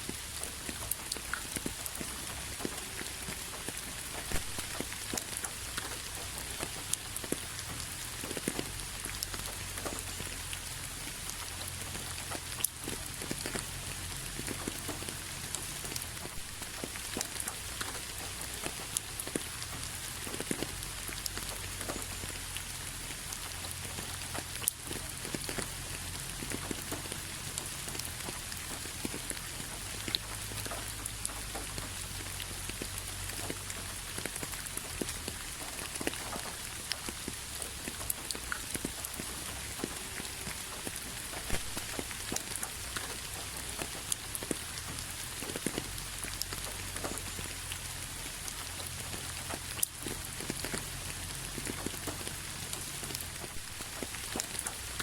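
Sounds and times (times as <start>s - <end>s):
rain on hard surface: 0.0s - 55.0s.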